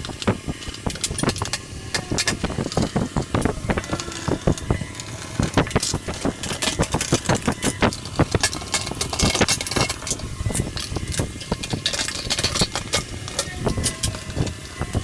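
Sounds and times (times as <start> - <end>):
hand tools clicking and clinking: 0.0 - 15.0.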